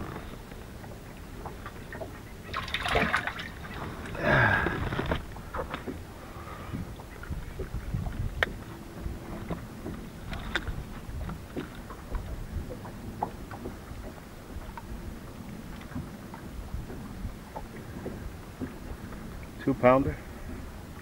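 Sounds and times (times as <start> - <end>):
low rumble of wind and water: 0.0 - 21.0.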